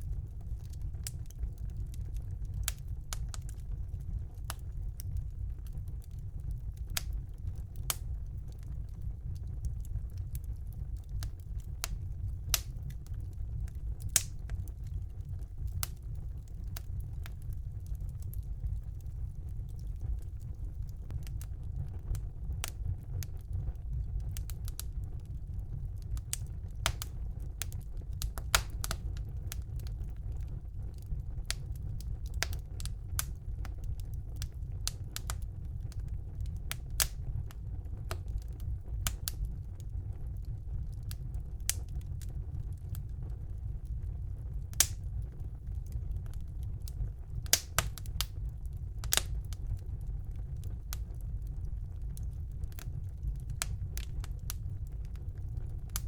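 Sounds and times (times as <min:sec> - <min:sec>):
fire crackles and pops: 0:00.0 - 0:56.0
fire flames rumbling: 0:00.0 - 0:56.0.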